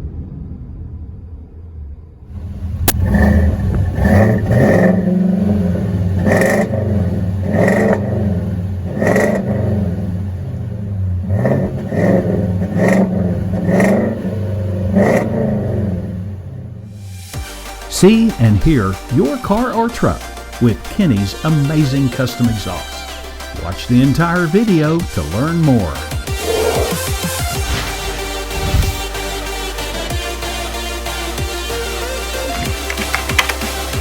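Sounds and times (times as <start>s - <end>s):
car engine idling and revving: 0.1s - 34.0s.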